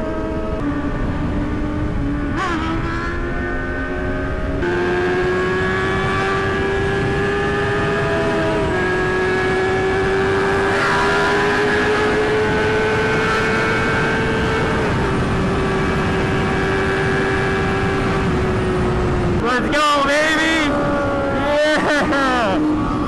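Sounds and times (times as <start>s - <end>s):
motorcycle engine at high revs: 0.0s - 19.5s, 20.4s - 23.0s
wind and road noise: 0.0s - 23.0s.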